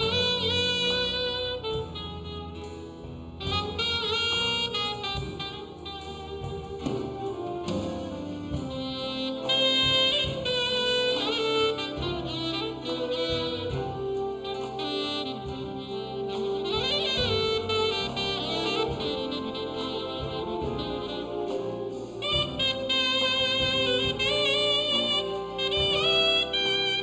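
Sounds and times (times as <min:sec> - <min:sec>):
big band jazz: 0:00.0 - 0:27.0.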